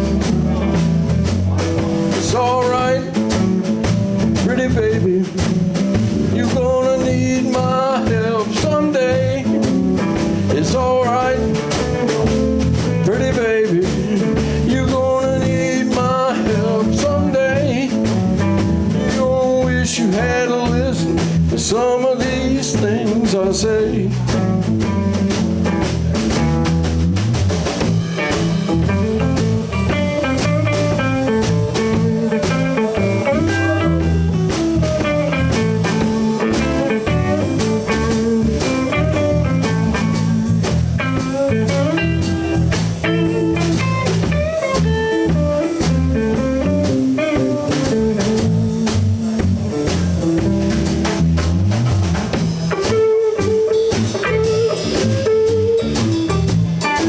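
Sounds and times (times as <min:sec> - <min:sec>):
electric guitar lead: 0:00.0 - 0:21.6, 0:23.6 - 0:57.0
drums played with brushes: 0:00.0 - 0:57.0
electric bass: 0:00.0 - 0:57.0.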